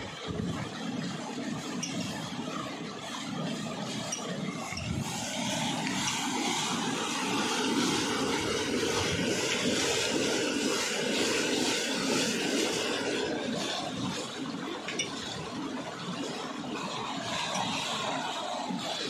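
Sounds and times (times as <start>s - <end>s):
water pouring into trough: 0.0s - 19.0s.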